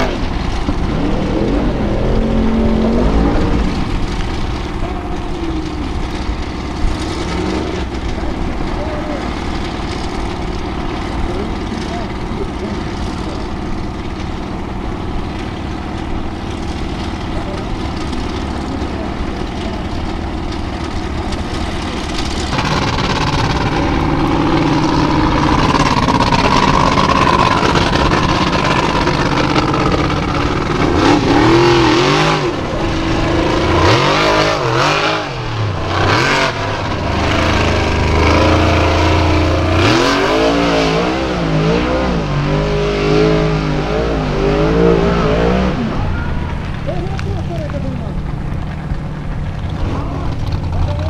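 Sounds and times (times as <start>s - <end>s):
car engines revving hard: 0.0s - 51.0s.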